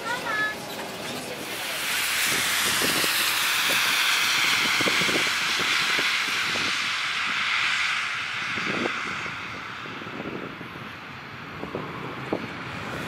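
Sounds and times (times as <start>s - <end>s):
tyres hissing on wet road: 0.0s - 13.0s.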